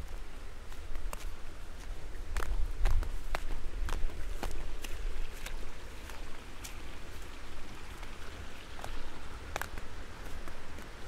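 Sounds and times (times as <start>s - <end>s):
footsteps on stone slabs: 0.0s - 7.4s, 8.0s - 11.0s
low rumble and hiss: 0.0s - 11.0s.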